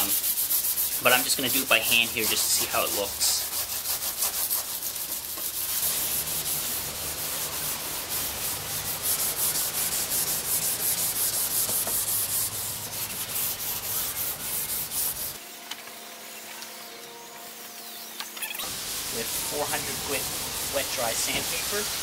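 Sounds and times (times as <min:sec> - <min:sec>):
sandpaper rasping on hard surface: 0:00.0 - 0:15.4, 0:18.6 - 0:22.0.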